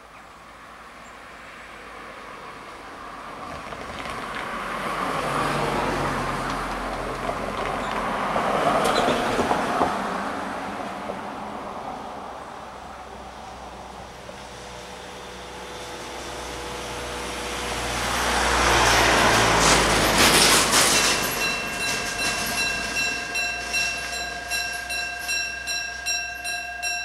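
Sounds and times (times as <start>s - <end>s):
cars driving past: 0.7s - 25.7s.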